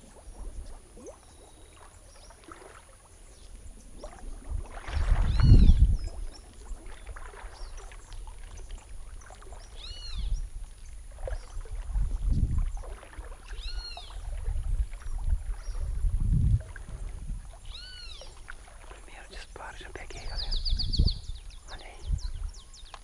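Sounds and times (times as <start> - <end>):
low rumbling water: 0.0 - 23.0.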